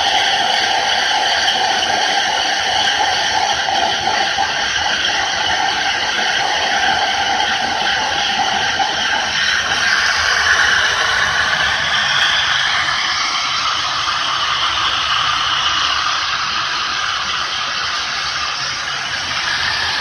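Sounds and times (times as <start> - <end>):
small electric fan whine: 0.0 - 20.0.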